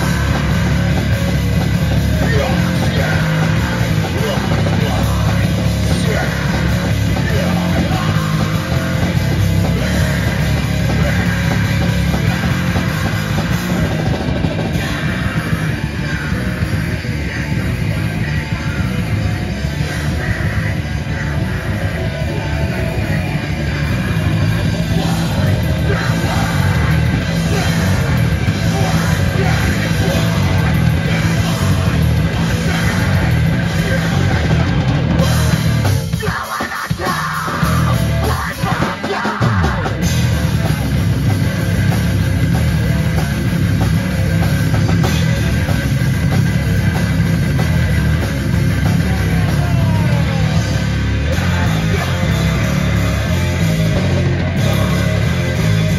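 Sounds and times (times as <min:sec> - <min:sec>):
bass guitar: 0:00.0 - 0:55.9
distorted electric guitar: 0:00.0 - 0:55.9
drum kit: 0:00.0 - 0:55.9
metal vocals: 0:00.0 - 0:55.9.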